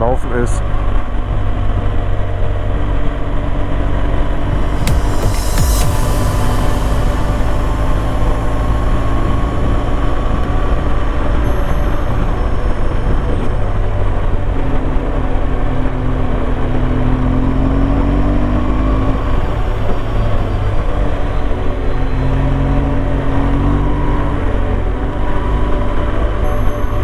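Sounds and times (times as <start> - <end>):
motorcycle engine running: 0.6 - 27.0.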